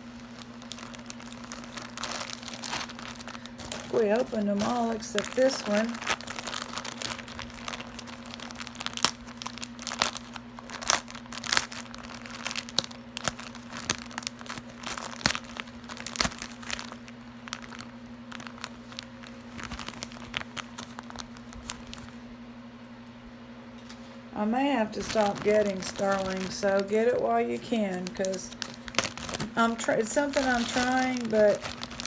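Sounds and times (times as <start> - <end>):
wrapping torn and crinkled: 0.0 - 22.3, 24.8 - 32.0
low steady hum: 0.0 - 32.0.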